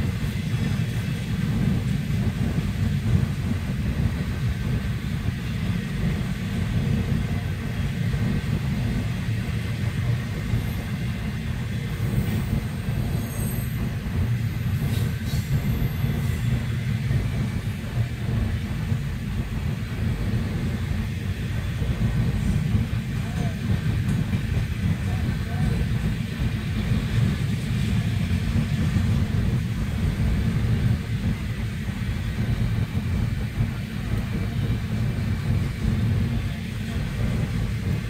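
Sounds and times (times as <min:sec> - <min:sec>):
muffled freight train rumble: 0:00.0 - 0:38.0.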